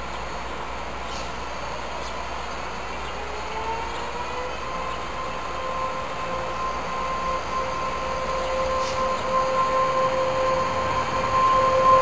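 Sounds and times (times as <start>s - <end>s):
steady high tone: 0.0s - 12.0s
train rumbling: 0.0s - 12.0s.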